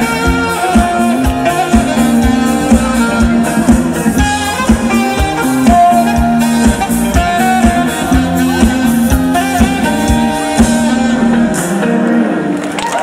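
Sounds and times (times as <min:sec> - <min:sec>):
drum kit with steady kick: 0:00.0 - 0:11.9
electric guitar: 0:00.0 - 0:13.0.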